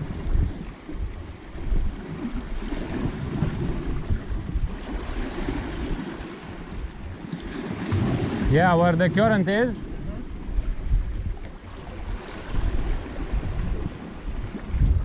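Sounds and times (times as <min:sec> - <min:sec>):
sea surf: 0:00.0 - 0:15.0
wind buffeting microphone: 0:00.0 - 0:15.0.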